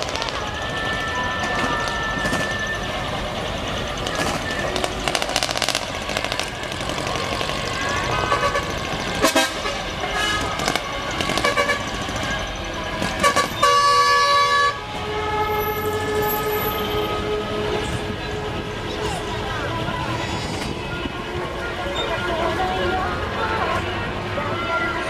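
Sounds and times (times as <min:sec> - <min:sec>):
truck engines running: 0:00.0 - 0:25.0
truck horns tooting: 0:00.0 - 0:25.0.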